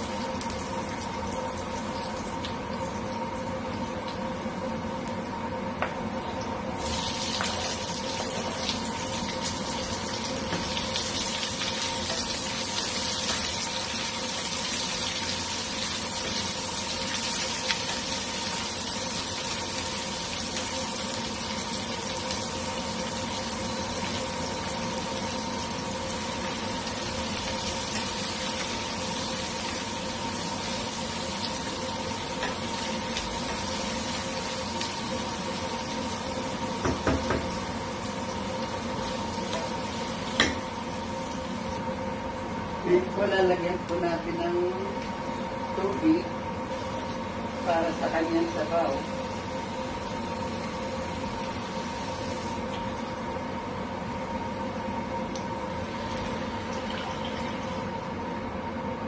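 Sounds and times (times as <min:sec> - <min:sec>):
garlic sizzling in hot oil: 0:00.0 - 0:05.3, 0:06.7 - 0:58.2.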